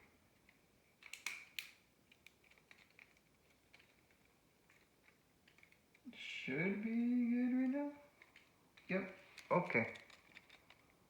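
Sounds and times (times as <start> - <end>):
plastic parts clicking: 0.4 - 6.0, 7.6 - 11.0.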